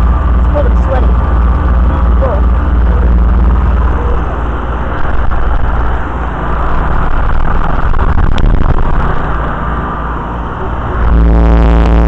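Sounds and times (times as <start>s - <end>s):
compressor hum: 0.0s - 12.0s.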